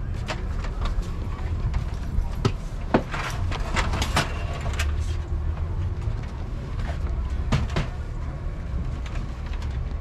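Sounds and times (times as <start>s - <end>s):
vehicle engine and road rumble: 0.0s - 10.0s.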